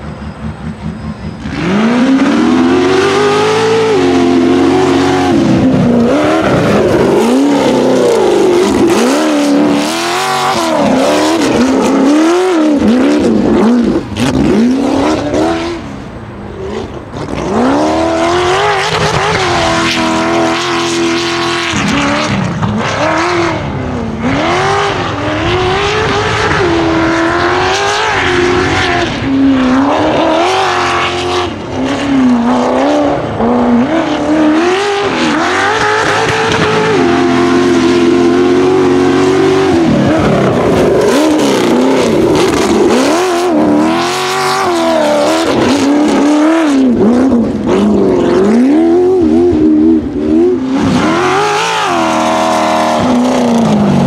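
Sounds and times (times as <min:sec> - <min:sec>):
race buggy engine revving: 0:00.0 - 0:54.0.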